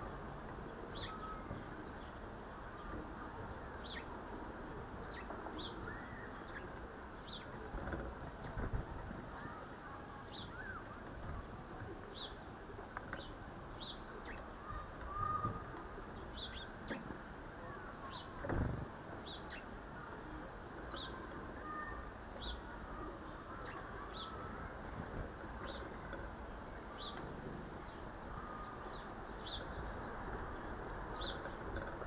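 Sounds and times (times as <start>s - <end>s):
garden birds chirping: 0.0s - 32.0s
steady outdoor hiss: 0.0s - 32.0s.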